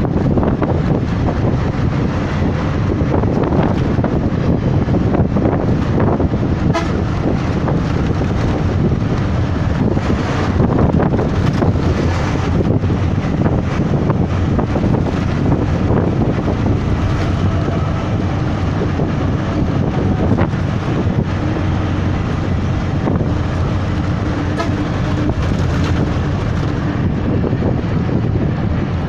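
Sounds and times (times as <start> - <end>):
vehicle engine and road noise: 0.0 - 29.0
wind on microphone: 0.0 - 29.0.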